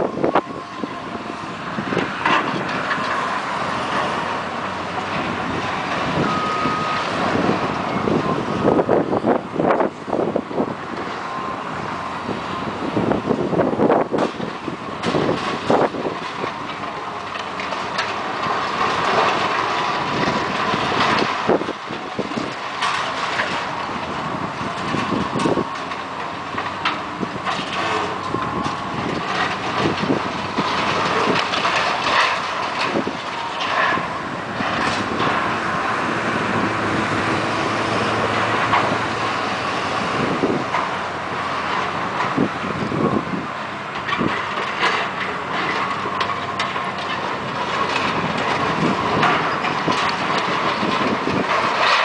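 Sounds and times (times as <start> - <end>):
excavators running: 0.0 - 52.0
metal and concrete debris crunching: 0.0 - 52.0.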